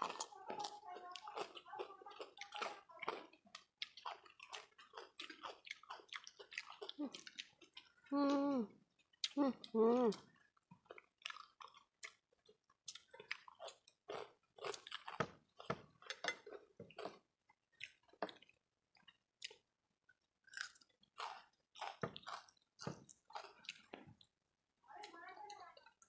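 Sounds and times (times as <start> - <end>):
close-up chewing sounds: 0.0 - 26.0.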